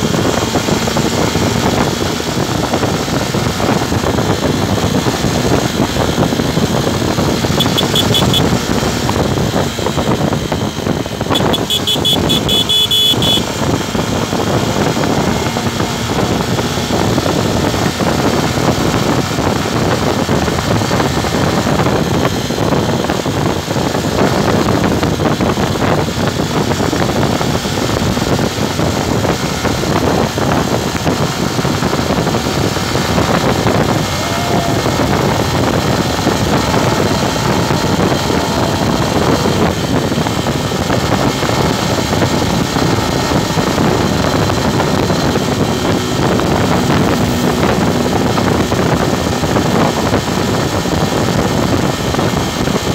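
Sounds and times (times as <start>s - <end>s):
motorcycle engine: 0.0s - 52.9s
road noise: 0.0s - 52.9s
wind rushing over microphone: 0.0s - 52.9s.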